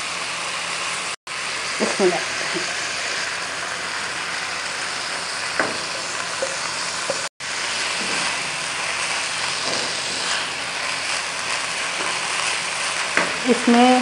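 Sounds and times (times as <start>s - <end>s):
rice sizzling in oil: 0.0s - 14.0s.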